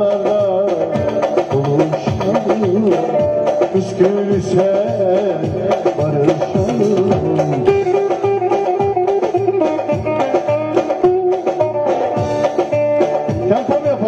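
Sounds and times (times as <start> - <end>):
plucked string melody: 0.0 - 14.0
steady drum beat: 0.0 - 14.0.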